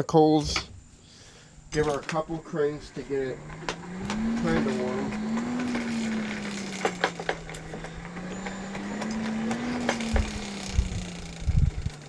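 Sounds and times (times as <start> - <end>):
forge blower whirring: 1.6 - 12.0.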